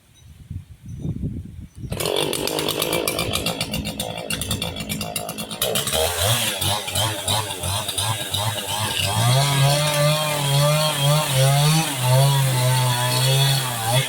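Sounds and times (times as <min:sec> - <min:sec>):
chainsaw cutting through wood: 0:01.9 - 0:14.0.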